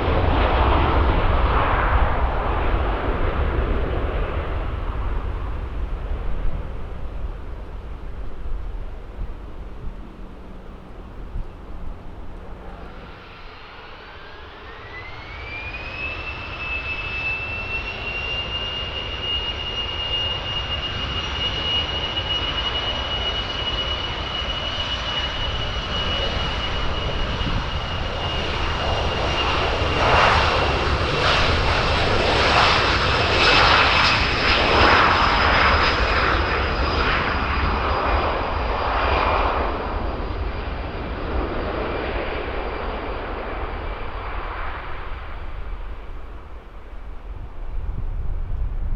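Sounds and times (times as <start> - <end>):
jet crackling rumble: 0.0 - 48.9
jet engines spooling up: 0.0 - 48.9.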